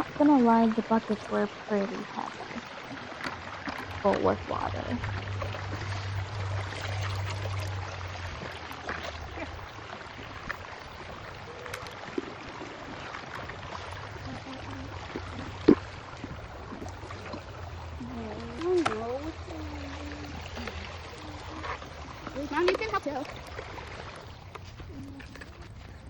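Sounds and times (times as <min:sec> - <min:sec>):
water running and pouring: 0:00.0 - 0:25.8.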